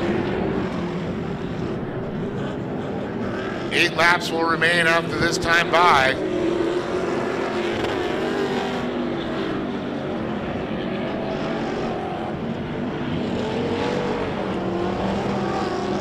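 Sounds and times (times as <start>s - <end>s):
race truck engines revving: 0.0s - 16.0s.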